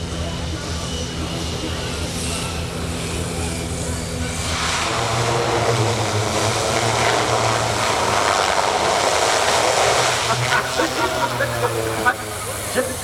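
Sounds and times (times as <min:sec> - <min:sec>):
turboprop aircraft engine: 0:00.0 - 0:13.0.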